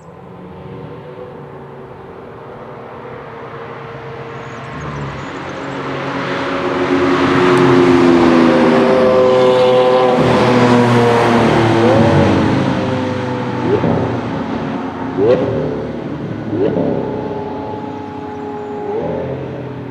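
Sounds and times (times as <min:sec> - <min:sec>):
sports car engine at speed: 0:00.0 - 0:19.9.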